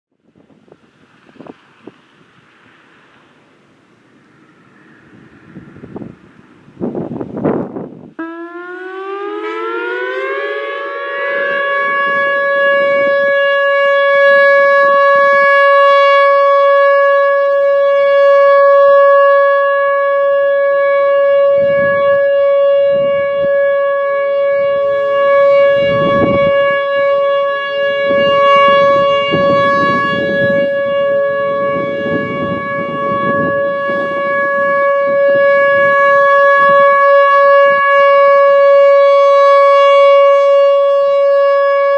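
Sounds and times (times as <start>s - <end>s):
outdoor warning siren: 0.1s - 41.9s
wind gusting on microphone: 0.1s - 41.9s.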